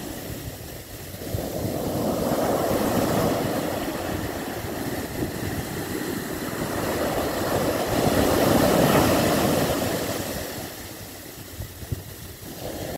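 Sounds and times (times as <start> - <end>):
ocean wave breaking on beach: 0.0 - 12.9.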